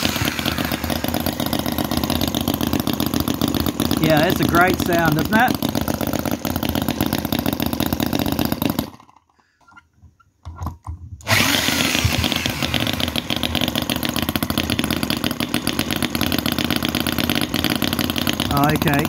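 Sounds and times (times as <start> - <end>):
small engine running fast: 0.0 - 9.2, 11.2 - 19.0.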